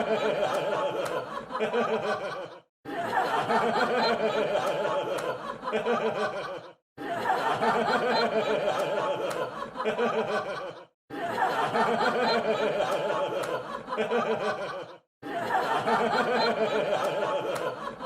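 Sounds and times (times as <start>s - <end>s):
crowd laughing: 0.0s - 18.0s.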